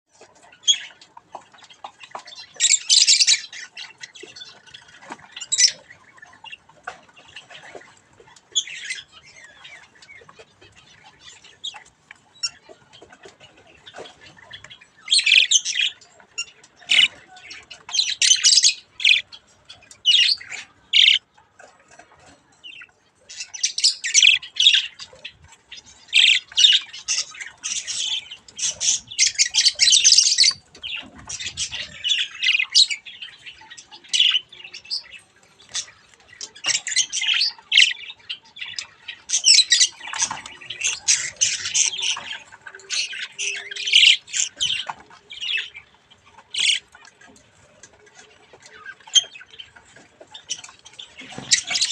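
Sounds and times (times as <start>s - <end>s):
budgerigar chicks chirping: 0.1s - 51.9s.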